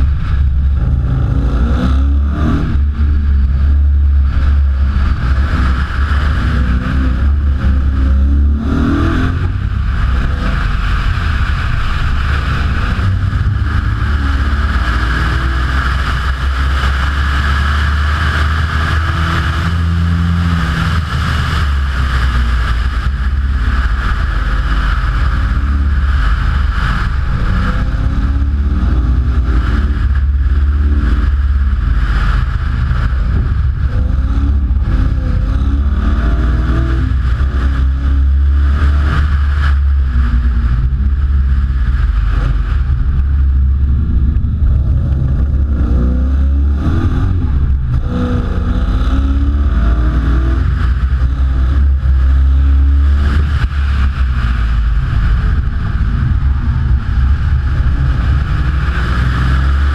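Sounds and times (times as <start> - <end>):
car engine accelerating: 0.0 - 59.9
heavy low rumble: 0.0 - 59.9.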